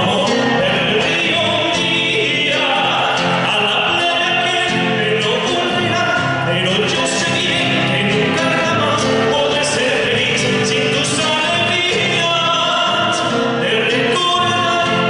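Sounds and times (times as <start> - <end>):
man singing folk song: 0.0 - 15.0.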